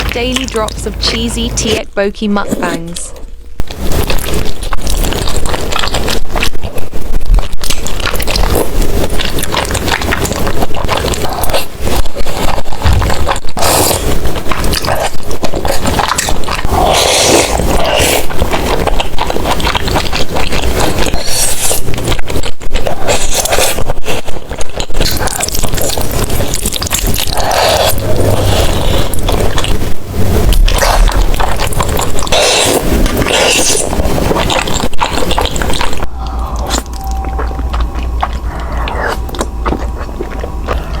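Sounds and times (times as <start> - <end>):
wet chewing and biting: 2.6 - 41.0.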